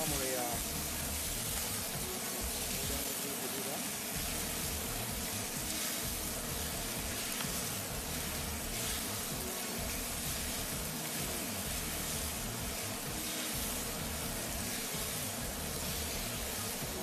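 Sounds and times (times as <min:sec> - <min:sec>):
beef and noodles sizzling: 0:00.0 - 0:17.0.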